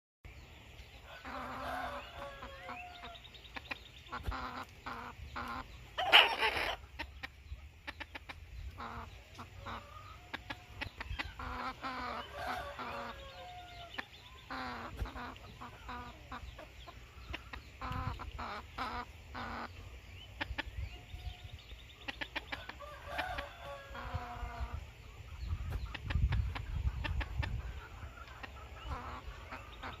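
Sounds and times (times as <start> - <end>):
chickens clucking: 0.3 - 30.0.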